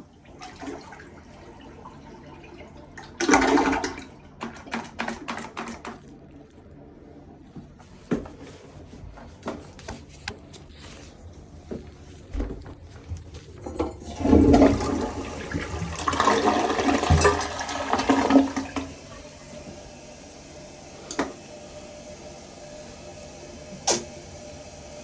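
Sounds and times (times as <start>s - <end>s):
toilet flushing: 0.0s - 25.0s.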